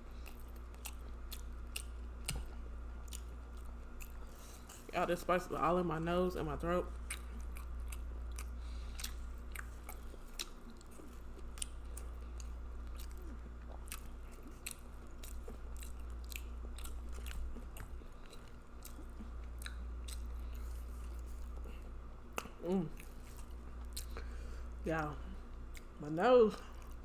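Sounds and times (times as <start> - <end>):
chewing and wet lip-smacking: 0.1 - 27.0.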